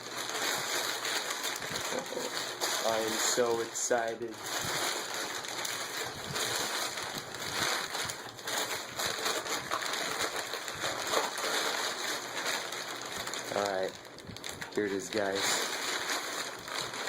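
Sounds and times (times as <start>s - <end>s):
paper and plastic crinkling: 0.0s - 17.0s.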